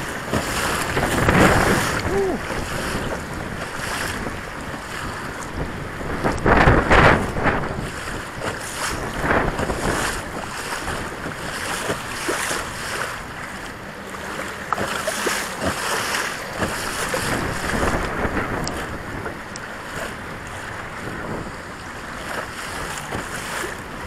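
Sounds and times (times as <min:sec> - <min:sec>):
waves slapping against kayak hull: 0:00.0 - 0:24.0
wind buffeting microphone: 0:00.0 - 0:24.0.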